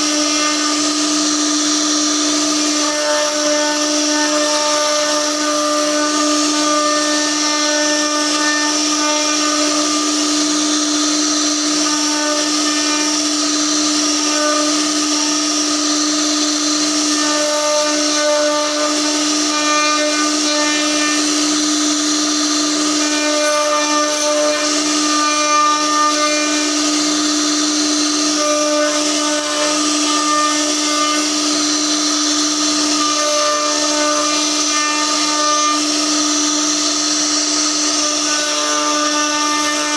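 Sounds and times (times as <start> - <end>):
router spindle whining: 0.0 - 39.9
wood cutting hiss: 0.0 - 39.9.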